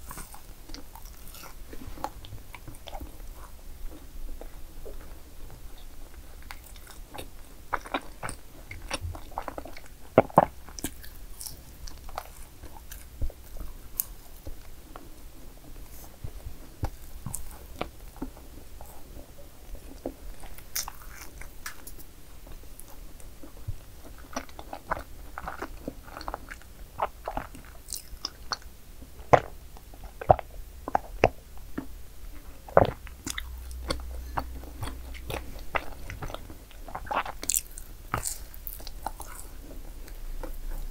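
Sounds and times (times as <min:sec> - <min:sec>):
person chewing crunchy food: 0:00.0 - 0:15.0, 0:15.6 - 0:40.9.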